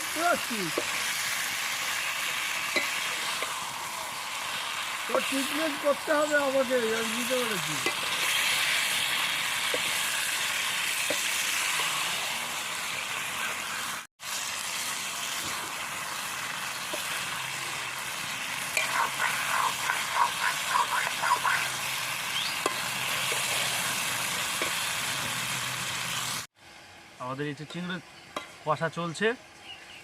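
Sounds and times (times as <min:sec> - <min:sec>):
prawns sizzling in oil: 0:00.0 - 0:26.5.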